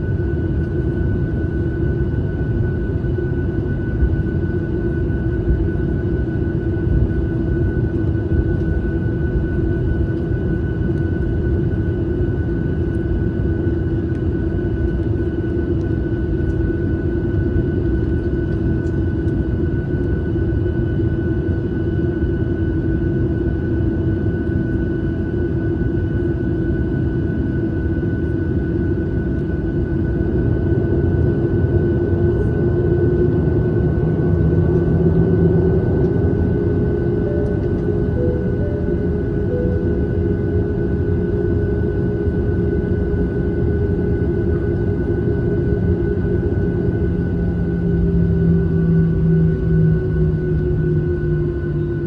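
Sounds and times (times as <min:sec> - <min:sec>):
high engine whine: 0:00.0 - 0:21.5, 0:28.8 - 0:52.0
airliner cabin engine rumble: 0:00.0 - 0:52.0.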